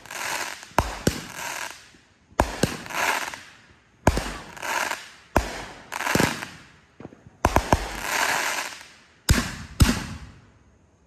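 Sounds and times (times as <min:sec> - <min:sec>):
fireworks bangs and pops: 0:00.0 - 0:10.4.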